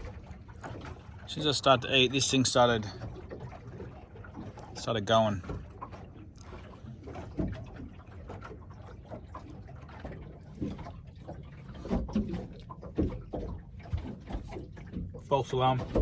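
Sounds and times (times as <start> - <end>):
light knocks and clicks on boat: 0.0 - 16.0.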